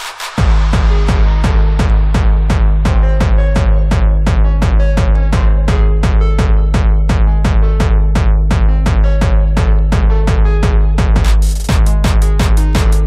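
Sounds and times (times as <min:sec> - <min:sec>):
pounding drum machine kick: 0:00.0 - 0:13.0.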